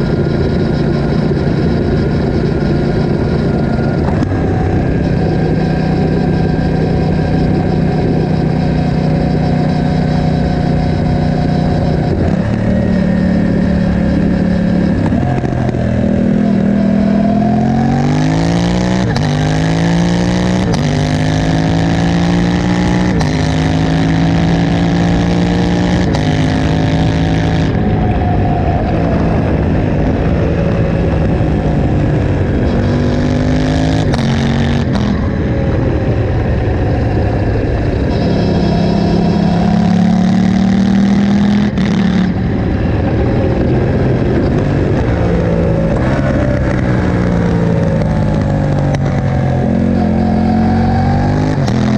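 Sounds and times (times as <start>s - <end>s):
motorcycle engine revving through gears: 0.0s - 51.9s.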